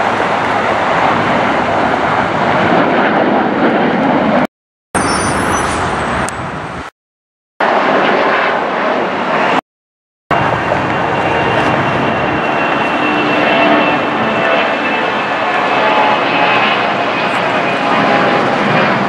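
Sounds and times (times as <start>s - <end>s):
jet engine roar: 0.0s - 6.9s, 7.6s - 9.6s, 10.3s - 19.0s.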